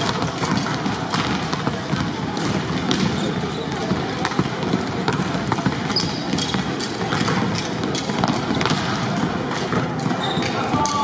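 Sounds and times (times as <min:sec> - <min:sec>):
crowd murmur: 0:00.0 - 0:11.0
volleyballs smacking on hardwood court: 0:00.0 - 0:11.0.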